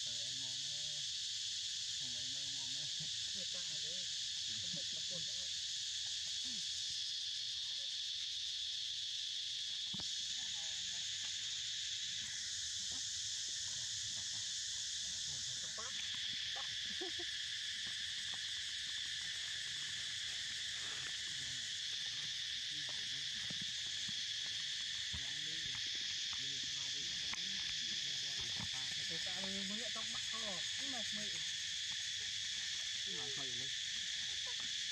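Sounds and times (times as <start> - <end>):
high-pitched insect chorus: 0.0 - 34.9.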